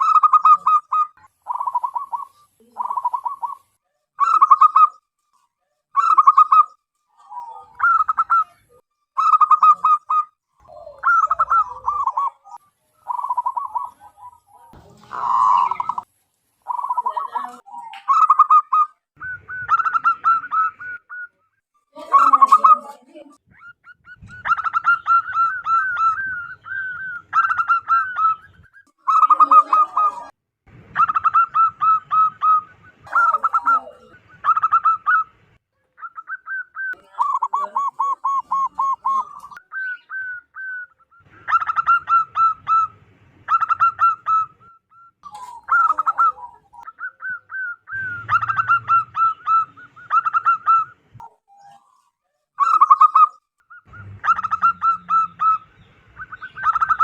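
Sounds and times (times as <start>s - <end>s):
dove cooing: 0.0s - 5.0s, 6.0s - 21.4s, 22.0s - 30.3s, 31.0s - 35.4s, 36.0s - 57.0s.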